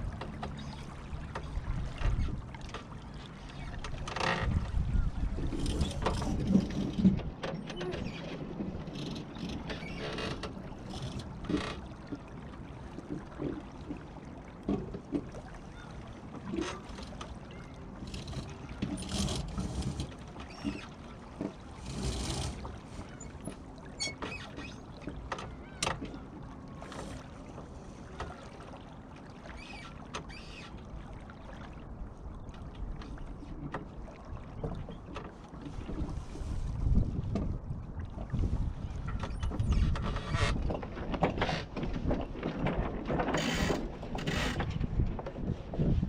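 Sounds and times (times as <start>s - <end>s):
water sloshing around hull: 0.0s - 46.0s.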